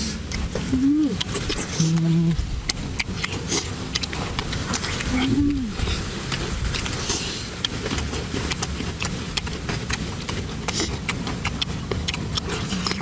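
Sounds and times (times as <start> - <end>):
food crunching while chewed: 0.0 - 13.0
steady low rumble: 0.0 - 13.0.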